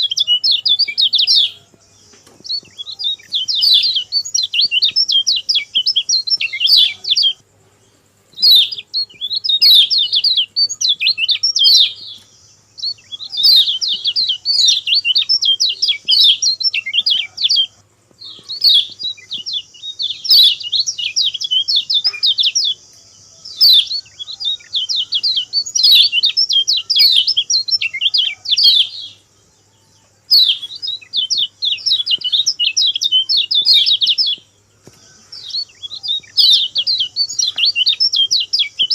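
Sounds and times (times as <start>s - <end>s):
songbird singing rapid high chirps: 0.0s - 38.9s.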